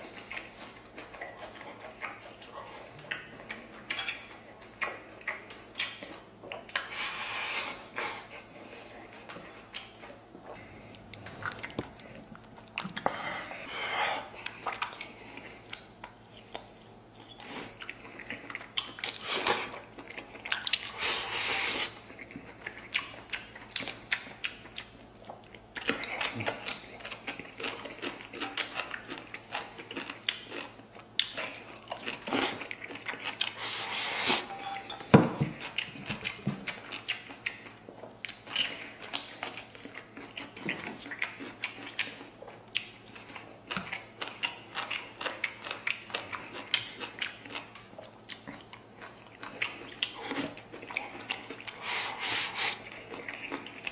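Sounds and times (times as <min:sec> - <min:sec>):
close chewing and biting: 0:00.0 - 0:07.2, 0:07.8 - 0:53.9.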